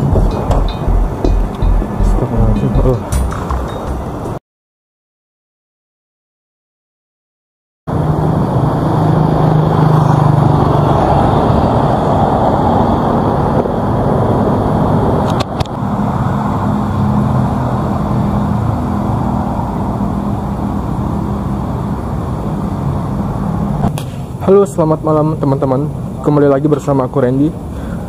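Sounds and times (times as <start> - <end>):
traffic rumble: 0.0 - 4.4, 7.9 - 28.0.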